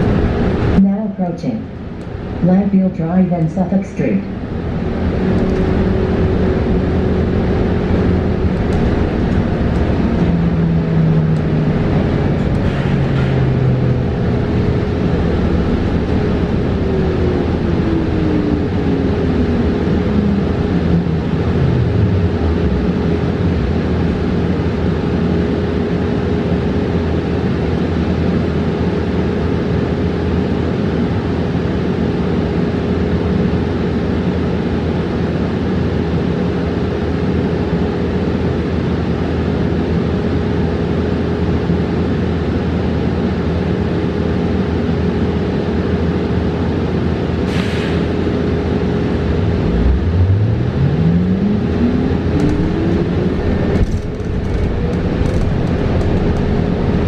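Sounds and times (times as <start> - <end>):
road and tyre rumble: 0.0 - 0.9, 1.6 - 2.6, 4.3 - 57.0.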